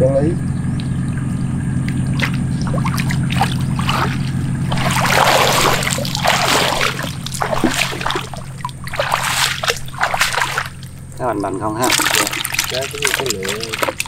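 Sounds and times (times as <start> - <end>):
small boat engine idling: 0.0 - 14.0
water splashing and trickling: 0.6 - 14.0.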